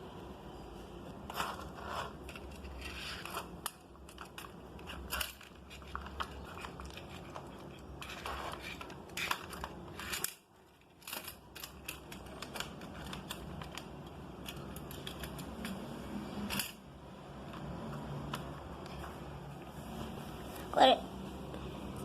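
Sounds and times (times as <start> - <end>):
plastic toys clicking and rattling: 1.3 - 19.1.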